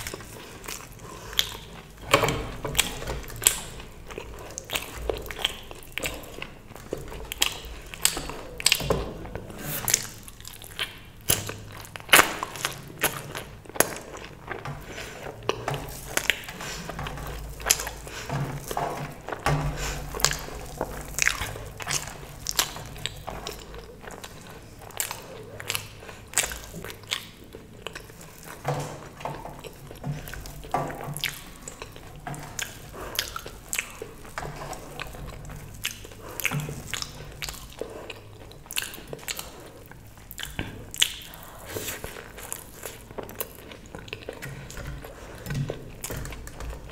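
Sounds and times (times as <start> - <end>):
mouth clicks and crunches: 0.0 - 46.9
person chewing food: 0.0 - 46.9.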